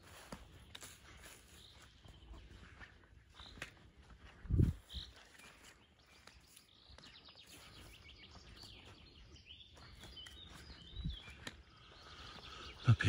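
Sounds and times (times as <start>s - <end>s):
faint birdsong chirps and trills: 0.0s - 13.0s.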